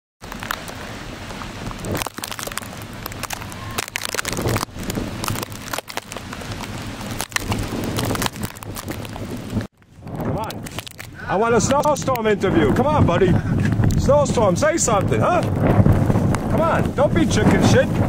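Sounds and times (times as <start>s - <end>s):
wind-driven snow crackling hiss: 0.3s - 18.0s.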